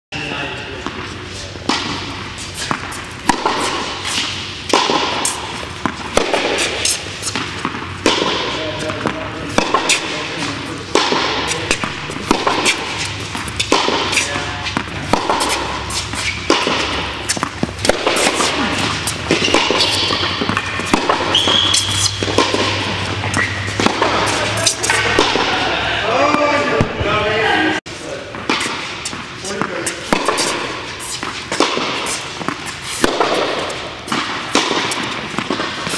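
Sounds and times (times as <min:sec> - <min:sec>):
distant voices: 0:00.2 - 0:35.9
tennis ball bouncing: 0:00.8 - 0:27.1, 0:28.3 - 0:35.9
racquet hitting tennis ball: 0:00.8 - 0:27.2, 0:28.3 - 0:35.9.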